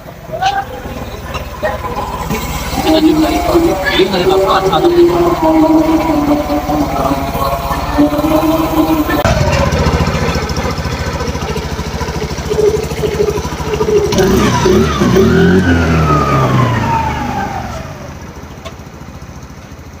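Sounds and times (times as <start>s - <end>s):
scooter engine revving: 0.0s - 20.0s.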